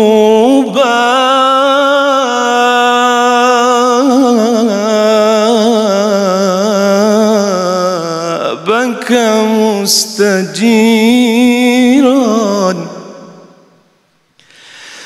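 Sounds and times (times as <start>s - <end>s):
man singing melisma: 0.0s - 13.9s.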